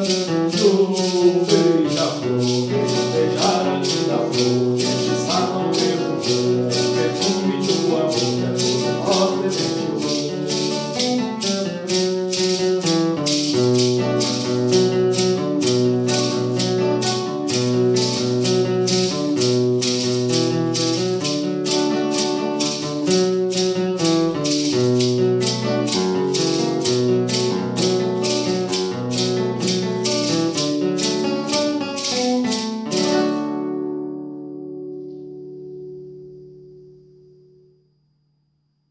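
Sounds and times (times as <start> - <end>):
maraca shaking: 0.0 - 33.8
acoustic guitar chords: 0.0 - 38.0.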